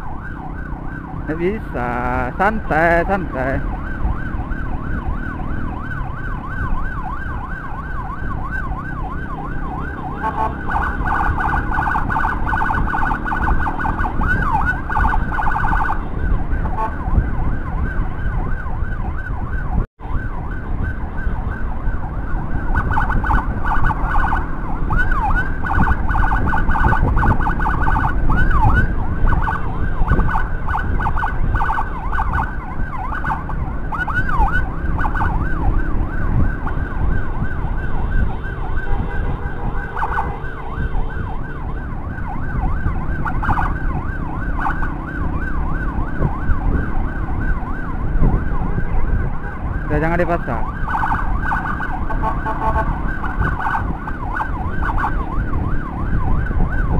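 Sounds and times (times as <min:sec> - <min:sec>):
electronic siren wailing: 0:00.0 - 0:56.9
tyres and wind noise: 0:00.0 - 0:56.9
motorcycle engine: 0:03.6 - 0:49.9.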